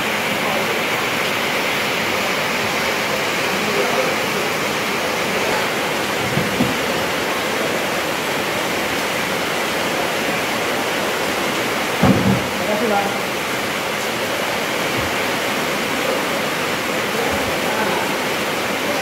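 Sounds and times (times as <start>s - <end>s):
light drizzling rain: 0.0s - 19.0s.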